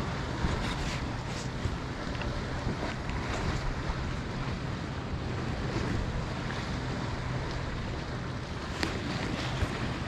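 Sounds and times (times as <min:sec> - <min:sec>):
water lapping around kayak: 0:00.0 - 0:10.0
wind buffeting microphone: 0:00.0 - 0:10.0.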